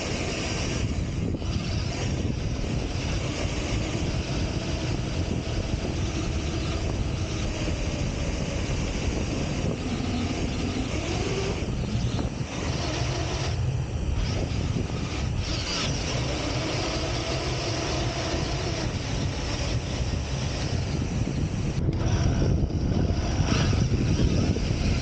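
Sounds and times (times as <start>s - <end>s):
motor whine: 0.0s - 25.0s
rc buggy driving on sand: 0.0s - 25.0s.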